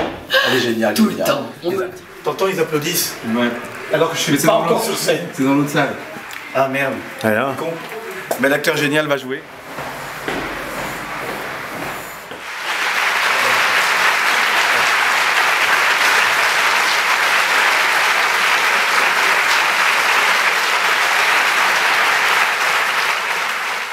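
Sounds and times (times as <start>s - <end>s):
audience applauding: 1.7s - 23.9s.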